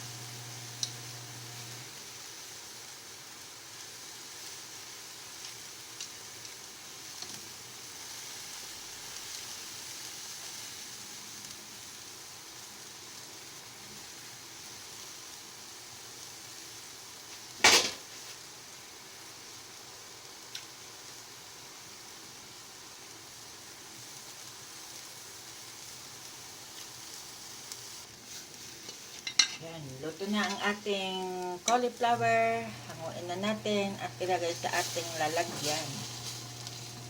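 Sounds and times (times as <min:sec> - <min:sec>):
pot boiling with hiss: 0:00.0 - 0:37.0.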